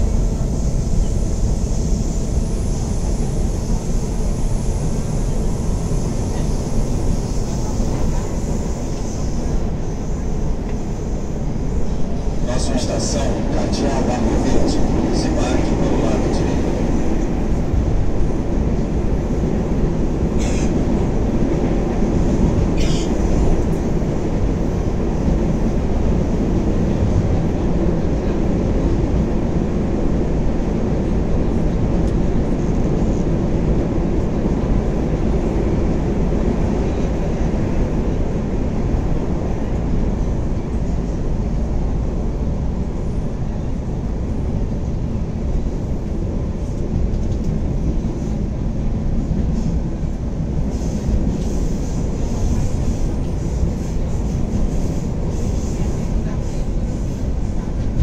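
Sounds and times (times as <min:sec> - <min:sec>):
metro train running: 0:00.0 - 0:58.0.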